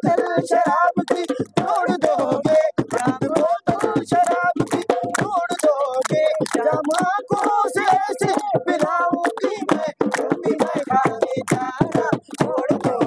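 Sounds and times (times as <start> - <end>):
fast sharp percussive beats: 0.0 - 13.0
high wavering folk singing: 0.0 - 13.0.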